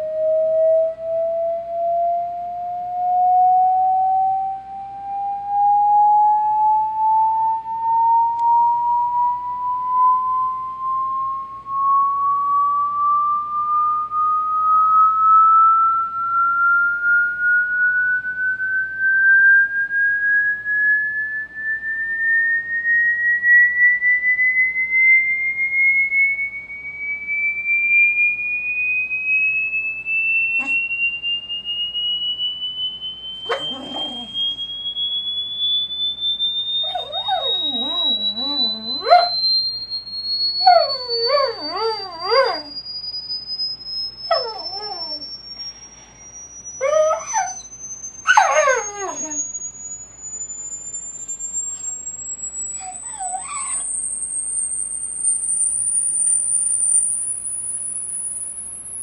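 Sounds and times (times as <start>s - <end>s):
rising sine tone sweep: 0.0s - 59.0s.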